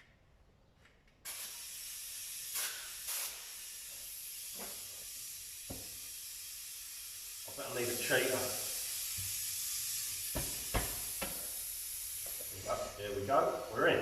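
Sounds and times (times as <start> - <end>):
compressed air hissing: 1.2 - 14.0.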